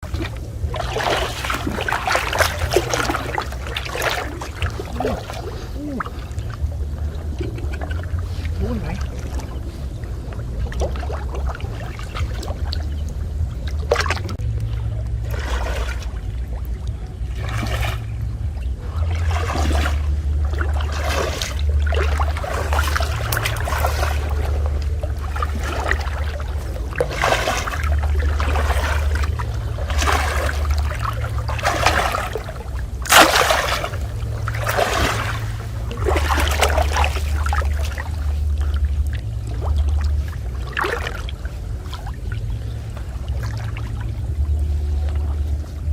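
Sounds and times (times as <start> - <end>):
steady low rumble: 0.0 - 45.9
water splashing and trickling: 0.0 - 45.9.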